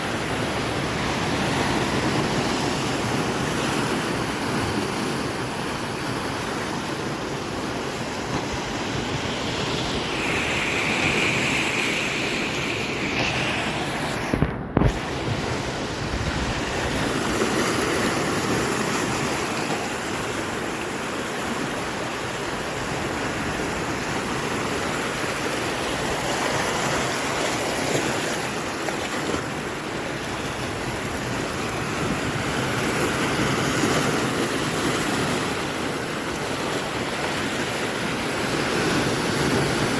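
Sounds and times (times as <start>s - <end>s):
surf washing against shore: 0.0s - 39.9s.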